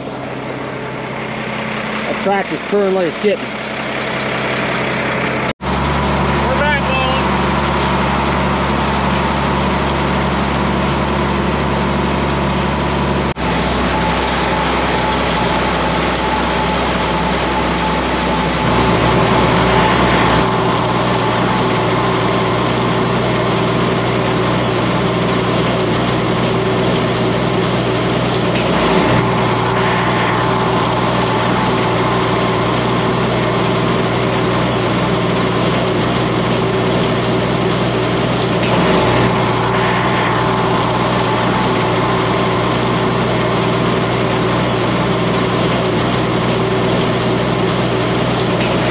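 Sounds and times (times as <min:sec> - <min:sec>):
tractor engine running under load: 0:00.0 - 0:48.9.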